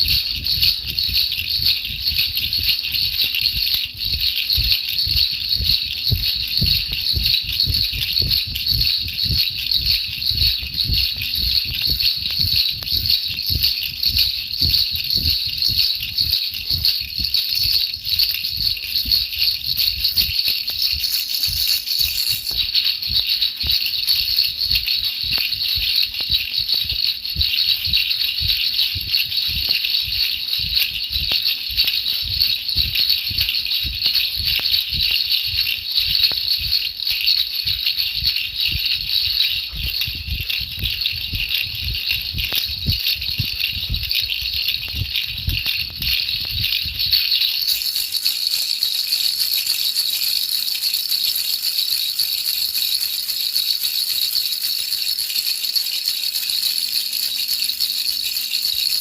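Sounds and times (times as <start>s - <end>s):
baby rattle shaking: 0.0s - 59.0s.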